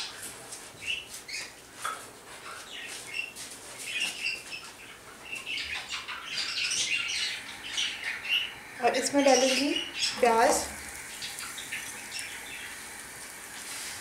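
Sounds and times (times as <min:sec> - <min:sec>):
birds chirping: 0:02.4 - 0:14.0.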